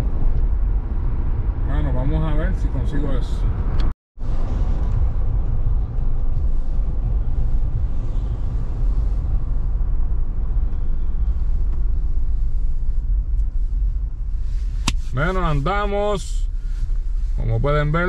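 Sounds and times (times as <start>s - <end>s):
car driving heard from inside: 0.0s - 18.0s.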